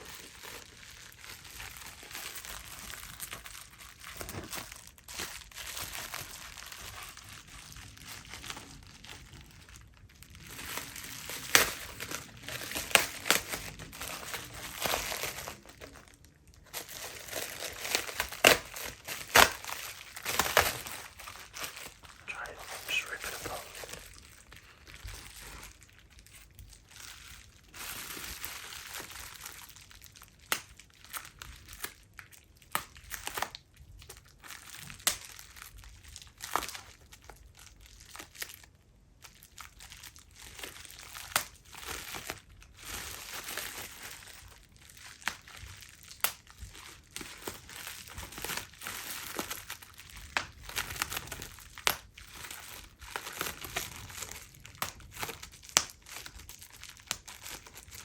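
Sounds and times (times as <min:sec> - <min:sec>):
bubble wrap crinkling: 0:00.0 - 0:58.0.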